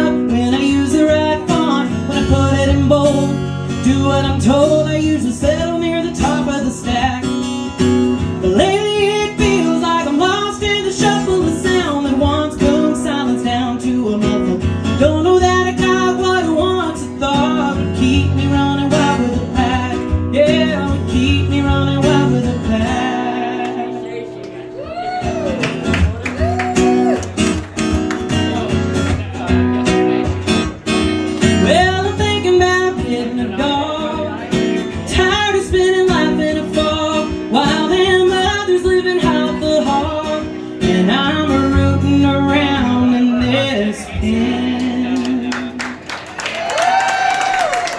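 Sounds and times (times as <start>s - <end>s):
country song on acoustic guitar: 0.0s - 46.1s.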